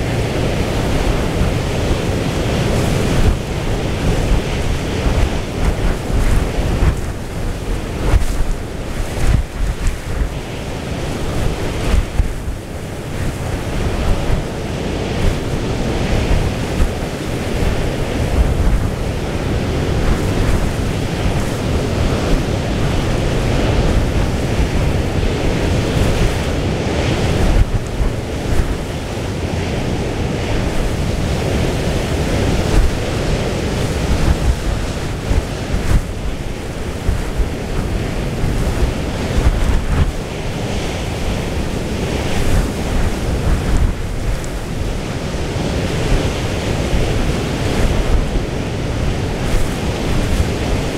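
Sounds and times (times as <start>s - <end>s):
rough sea breaking: 0.0s - 50.9s
wind buffeting the microphone: 0.0s - 50.9s.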